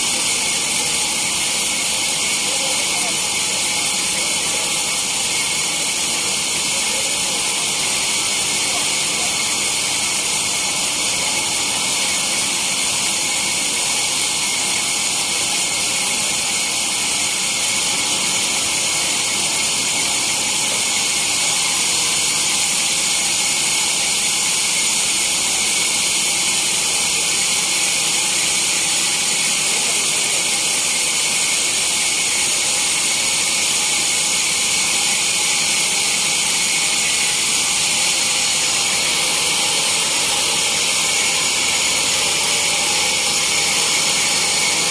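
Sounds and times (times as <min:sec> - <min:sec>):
sawmill saw whining: 0:00.0 - 0:44.9.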